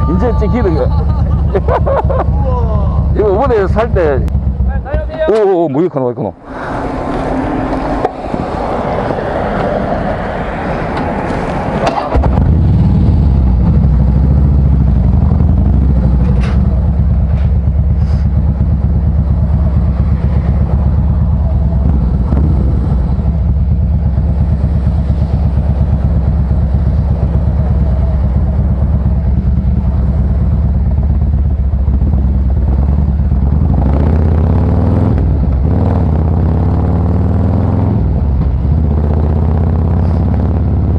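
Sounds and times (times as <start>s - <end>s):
motorcycle exhaust pulsing: 0.0s - 9.5s, 12.0s - 40.9s
wind and road noise: 0.0s - 40.9s.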